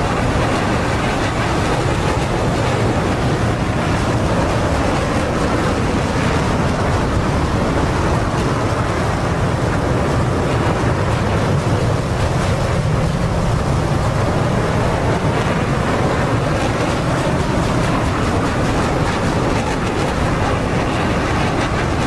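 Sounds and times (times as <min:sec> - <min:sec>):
jet engine and airflow noise: 0:00.0 - 0:22.0.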